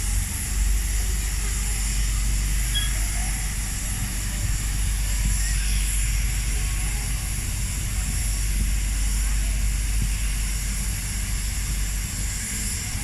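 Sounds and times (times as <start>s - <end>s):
low locomotive rumble: 0.0s - 13.0s
steam hissing: 0.0s - 13.0s.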